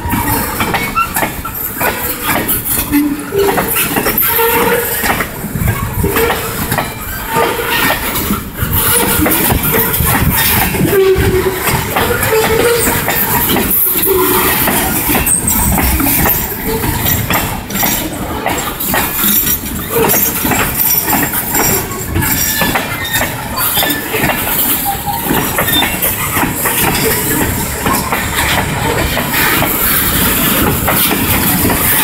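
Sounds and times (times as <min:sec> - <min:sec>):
train wheels rumbling on rails: 0:00.0 - 0:32.0
wheels clanking over rail joints: 0:00.0 - 0:32.0.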